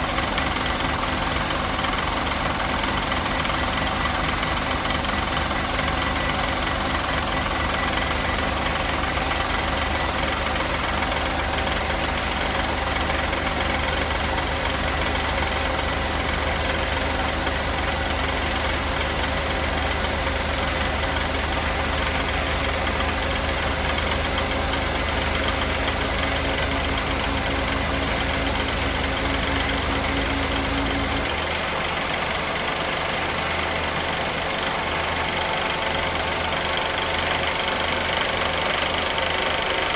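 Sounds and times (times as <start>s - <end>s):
car engine running: 0.0s - 39.9s
engine knocking: 0.0s - 39.9s.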